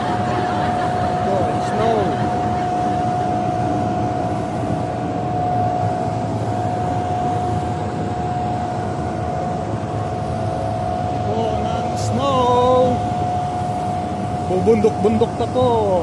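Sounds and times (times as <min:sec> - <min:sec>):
snow machine whining and rushing: 0:00.0 - 0:16.0.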